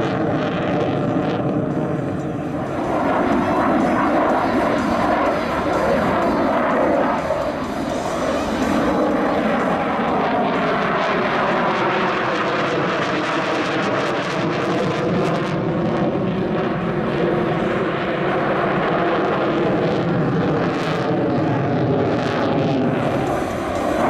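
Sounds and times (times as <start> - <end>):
fighter jet flying overhead: 0.0 - 24.0.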